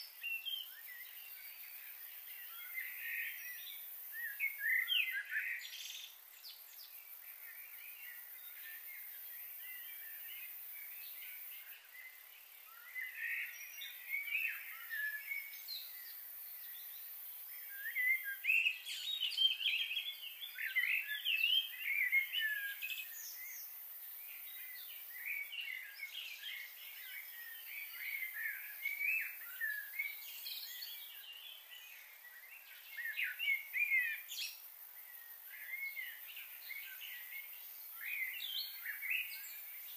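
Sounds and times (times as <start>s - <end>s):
faint steady hiss: 0.0s - 39.9s
small birds twittering: 0.0s - 39.9s.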